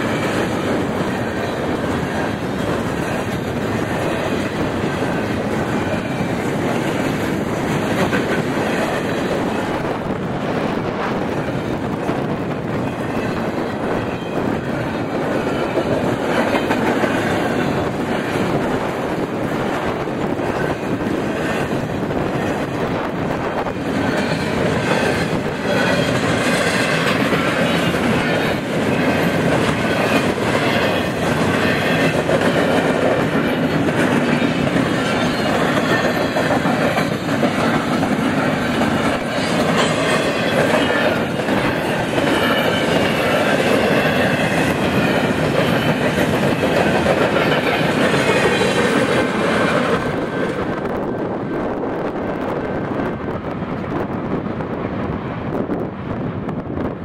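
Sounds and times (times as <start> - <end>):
steel wheels clacking over rail joints: 0.0 - 55.2
freight train rolling past: 0.0 - 57.0.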